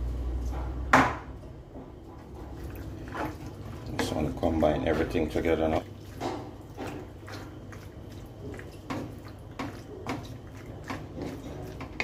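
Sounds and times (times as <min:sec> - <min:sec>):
spatula stirring pasta in sauce: 0:02.2 - 0:12.0.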